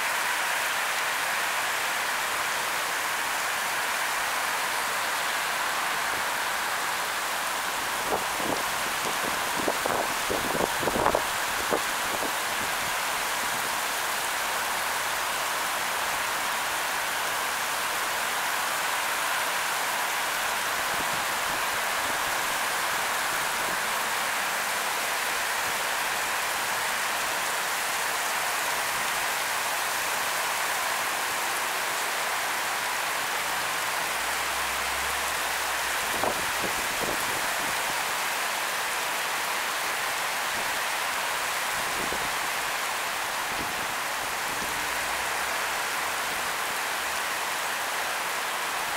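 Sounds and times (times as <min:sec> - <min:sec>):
torrential rain on pavement: 0:00.0 - 0:48.9.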